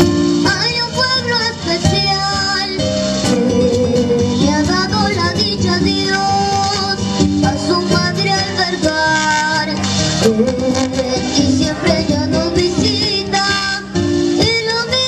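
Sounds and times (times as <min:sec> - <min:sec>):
girl singing into microphone: 0:00.0 - 0:15.0
music accompaniment: 0:00.0 - 0:15.0.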